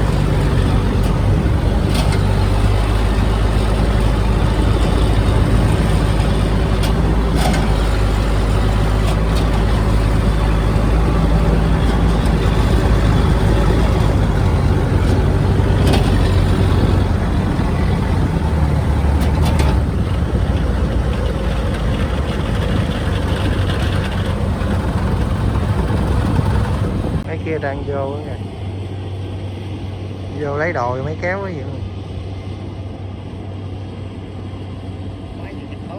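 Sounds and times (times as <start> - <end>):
diesel farm machine running: 0.0 - 35.9.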